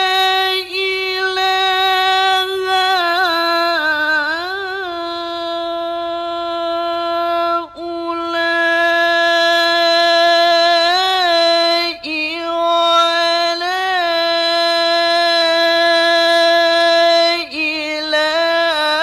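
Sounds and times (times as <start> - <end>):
man reciting melodically: 0.0 - 19.0.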